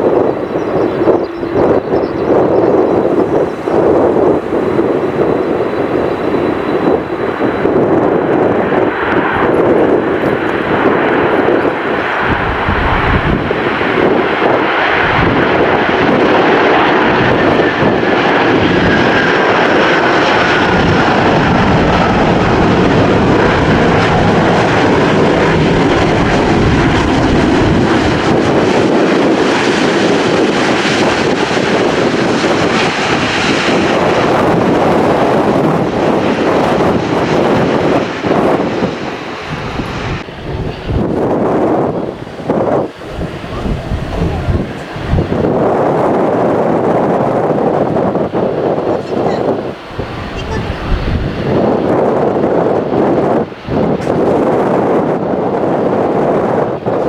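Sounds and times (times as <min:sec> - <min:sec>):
faint engine whine: 0:00.0 - 0:46.4
airliner engines running: 0:00.0 - 0:57.0
wind gusts buffeting microphone: 0:00.0 - 0:57.0.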